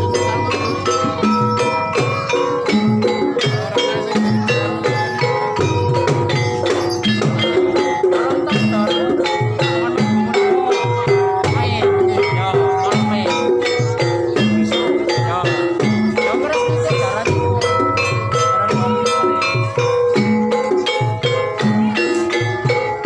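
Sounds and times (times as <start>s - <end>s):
tuned mallet percussion melody: 0.0s - 23.0s.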